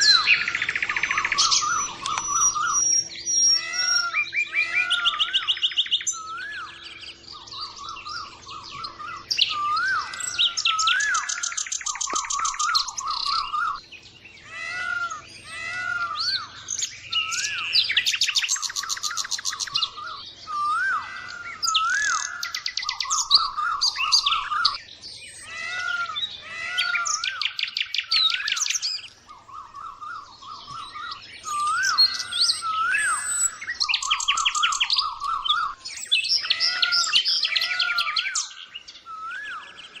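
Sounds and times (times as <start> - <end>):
small birds chirping and trilling: 0.0 - 40.0.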